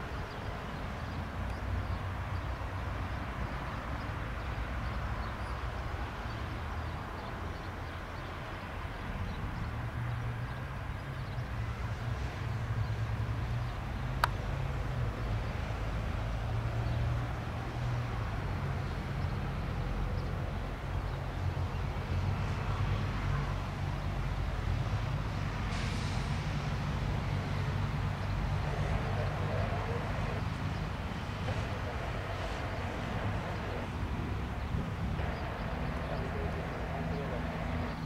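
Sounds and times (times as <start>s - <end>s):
distant turboprop engines droning: 0.0s - 38.0s.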